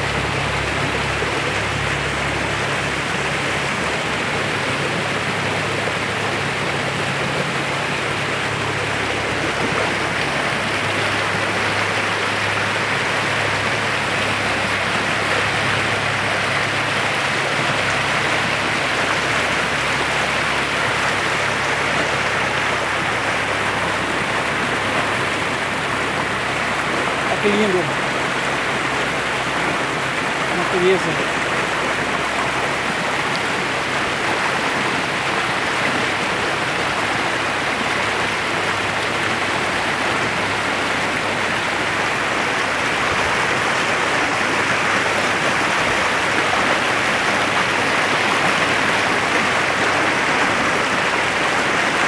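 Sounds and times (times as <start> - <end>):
stream rushing over rocks: 0.0 - 52.0.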